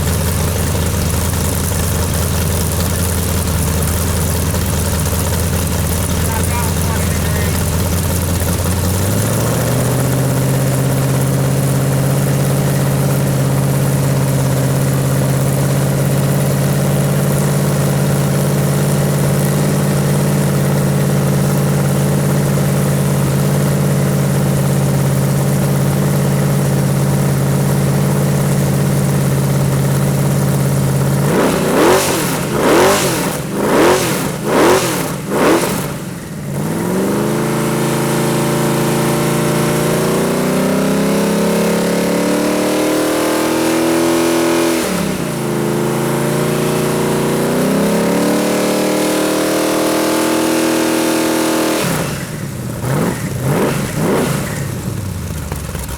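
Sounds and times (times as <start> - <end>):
engine idling: 0.0 - 55.9
engine revving sharply: 5.6 - 55.2.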